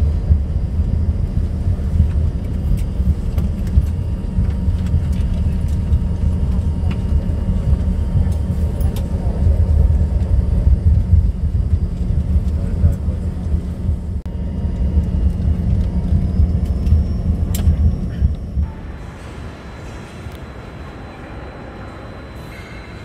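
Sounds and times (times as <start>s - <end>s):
jet engines and rolling rumble: 0.0s - 23.0s.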